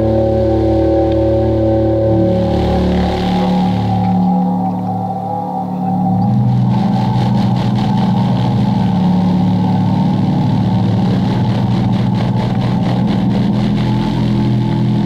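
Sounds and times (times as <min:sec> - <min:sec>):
faint crackle: 0:00.0 - 0:15.0
loudspeaker low-frequency hum: 0:00.0 - 0:15.0.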